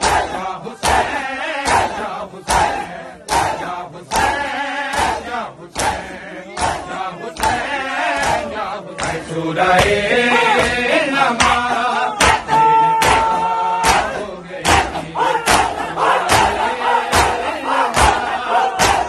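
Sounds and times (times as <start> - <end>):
men beating their chests: 0.0 - 19.0
men chanting together: 0.0 - 19.0.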